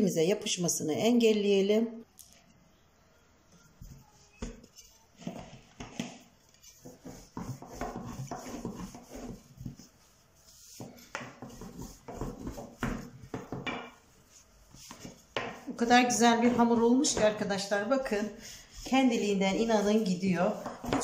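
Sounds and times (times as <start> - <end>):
hands kneading dough: 3.5 - 21.0.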